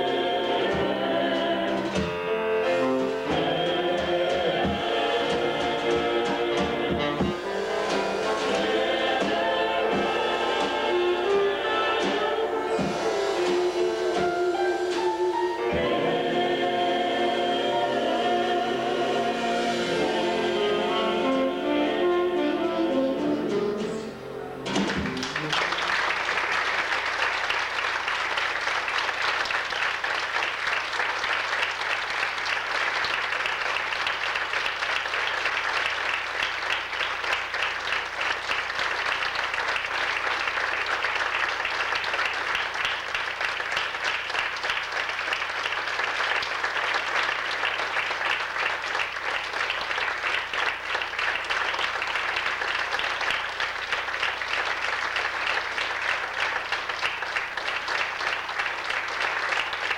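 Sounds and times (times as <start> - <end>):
audience applauding: 0.0 - 21.2, 24.5 - 59.9.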